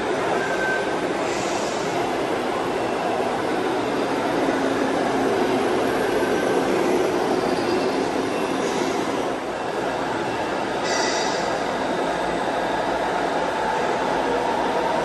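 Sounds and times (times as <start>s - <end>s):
large hall background rumble: 0.0s - 15.0s.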